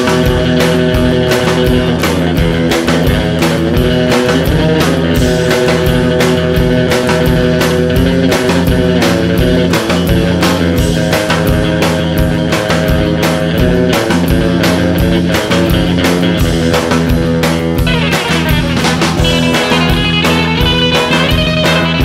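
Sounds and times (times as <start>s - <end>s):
drum kit beat: 0.0s - 22.0s
guitar: 0.0s - 22.0s.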